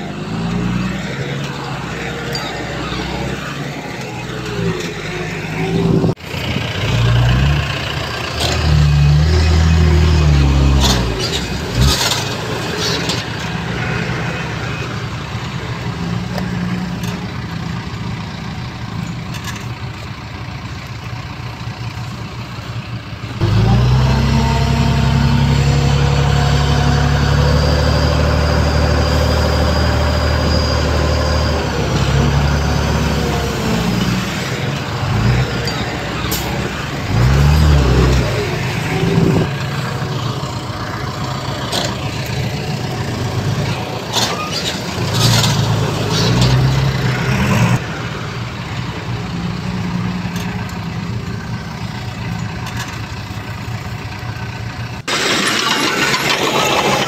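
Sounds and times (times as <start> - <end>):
heavy diesel machinery engine: 0.0 - 57.0.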